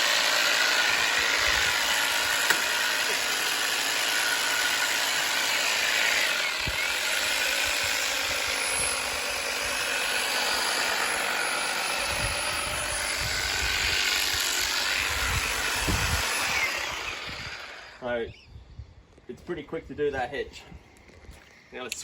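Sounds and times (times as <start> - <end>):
hedge trimmer running: 0.0 - 18.0.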